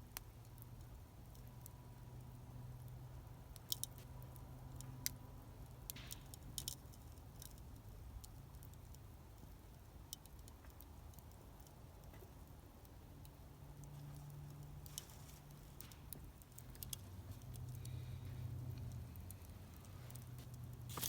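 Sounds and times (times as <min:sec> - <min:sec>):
campfire crackling and popping: 0:00.0 - 0:21.0
low steady hum: 0:00.0 - 0:21.0.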